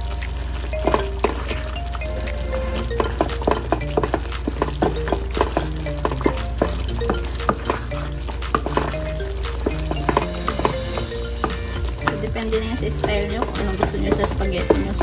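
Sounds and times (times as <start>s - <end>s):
sauce sizzling: 0.0s - 15.0s.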